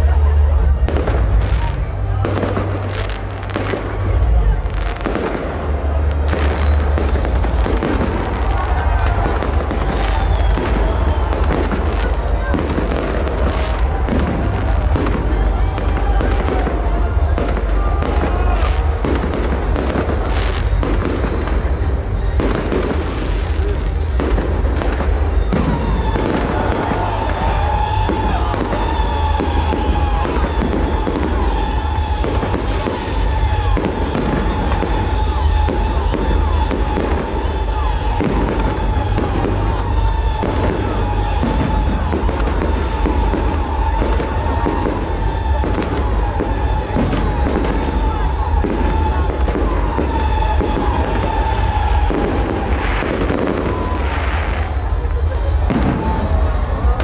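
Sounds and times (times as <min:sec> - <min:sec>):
fireworks bangs and crackles: 0:00.0 - 0:57.0
music playing: 0:00.0 - 0:57.0.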